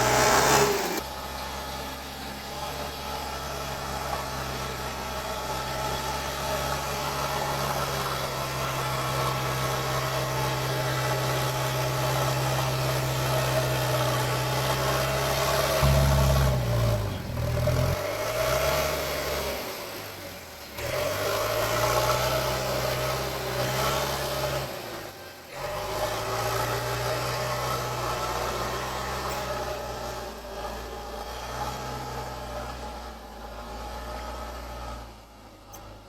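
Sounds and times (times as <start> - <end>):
backhoe diesel engine working: 0.0 - 36.0.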